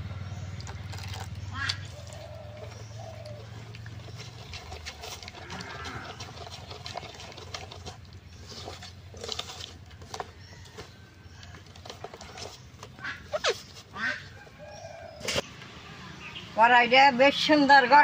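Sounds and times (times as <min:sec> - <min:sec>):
hand mixing wet batter: 0:00.0 - 0:15.1.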